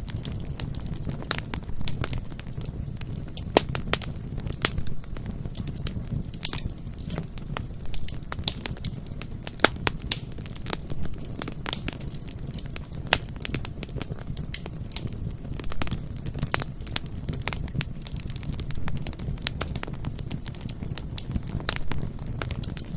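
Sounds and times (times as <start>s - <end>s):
burning wood crackling and popping: 0.0s - 22.9s
low rumble of flames: 0.0s - 22.9s.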